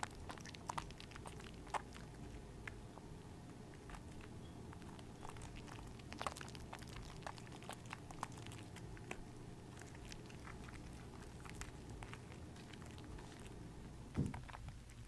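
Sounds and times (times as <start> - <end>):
soap lather squishing: 0.0 - 2.9, 3.7 - 13.8.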